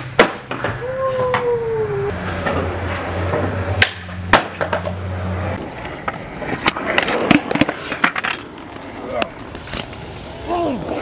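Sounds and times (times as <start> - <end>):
skateboard clacking on ground: 0.0 - 1.6, 2.2 - 11.0
skateboard wheels rolling: 0.0 - 11.0.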